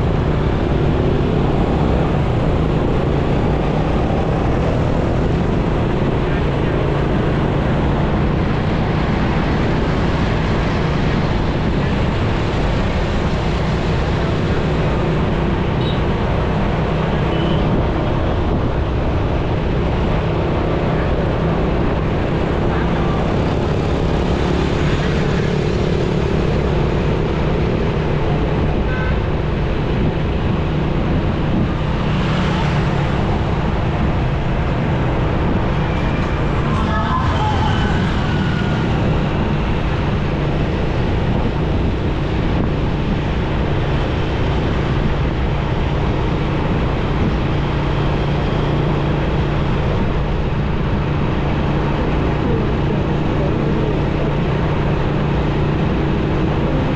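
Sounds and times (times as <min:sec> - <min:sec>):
road and traffic noise: 0:00.0 - 0:56.9.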